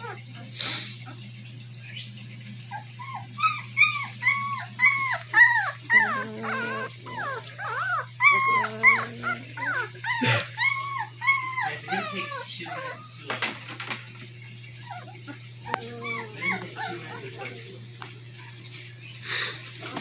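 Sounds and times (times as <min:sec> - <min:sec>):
puppies whining and squeaking: 0:00.0 - 0:13.4, 0:14.2 - 0:20.0.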